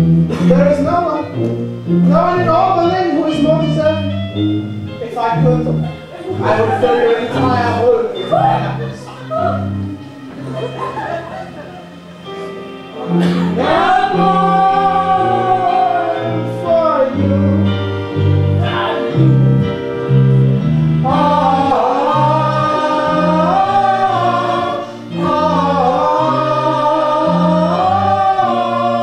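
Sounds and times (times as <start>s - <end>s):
instrumental accompaniment: 0.0s - 29.0s
voices singing in harmony: 5.0s - 29.0s.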